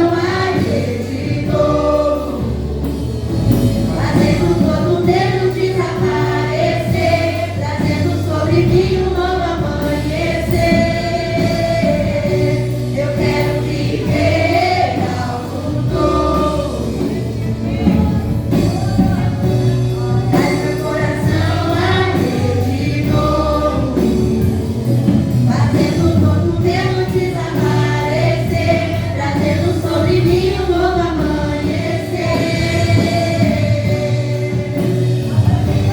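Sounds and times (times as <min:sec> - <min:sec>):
band with bass and drums: 0:00.0 - 0:35.9
gospel group singing in harmony: 0:00.0 - 0:35.9.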